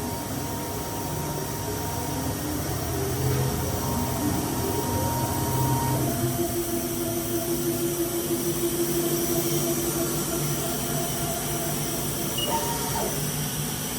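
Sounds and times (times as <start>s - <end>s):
steady mechanical hum: 0.0s - 13.9s.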